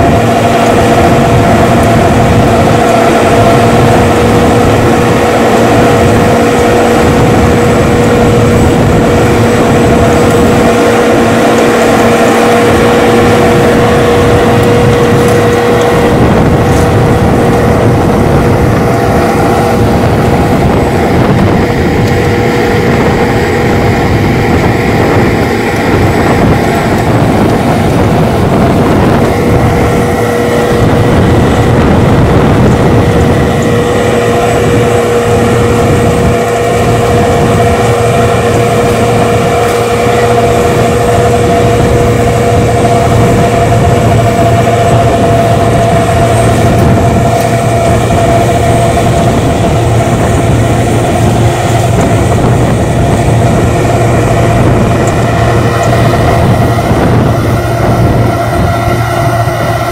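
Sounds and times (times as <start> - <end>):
high machine whine: 0.0 - 59.9
road milling machine diesel drone: 0.0 - 59.9.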